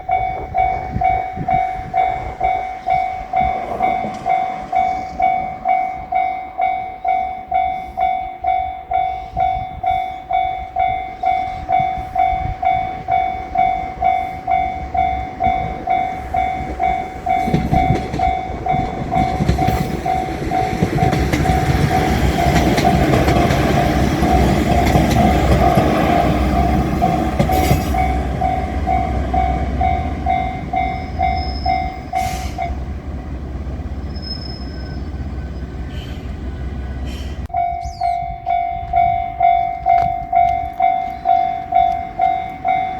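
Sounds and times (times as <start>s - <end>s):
level-crossing bell ringing: 0.0s - 32.8s, 37.5s - 42.9s
train rumble and wheel noise: 0.0s - 42.9s.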